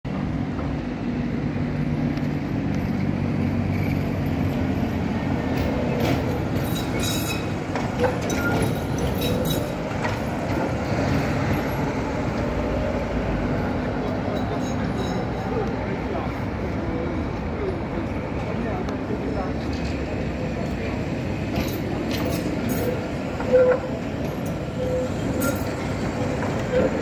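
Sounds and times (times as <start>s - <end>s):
street noise: 0.0s - 27.0s
tram humming: 0.1s - 27.0s
tram wheels clicking over rails: 0.1s - 27.0s.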